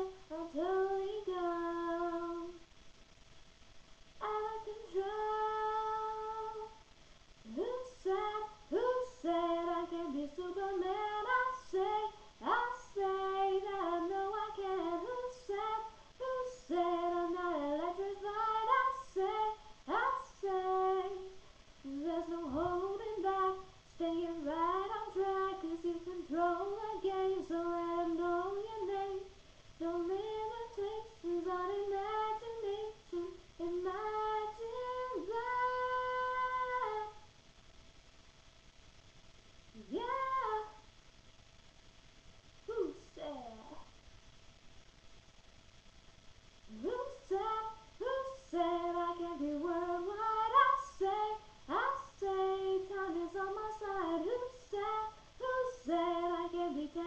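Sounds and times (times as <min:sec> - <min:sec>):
girl singing unaccompanied: 0:00.0 - 0:02.9, 0:04.0 - 0:37.3, 0:39.7 - 0:40.9, 0:46.6 - 0:57.0.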